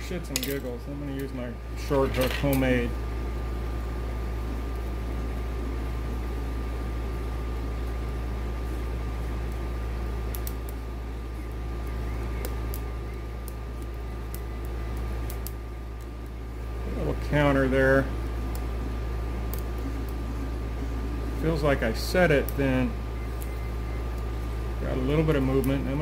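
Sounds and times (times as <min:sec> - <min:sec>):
faint thin whine: 0:00.0 - 0:26.0
steady low hum: 0:00.0 - 0:26.0.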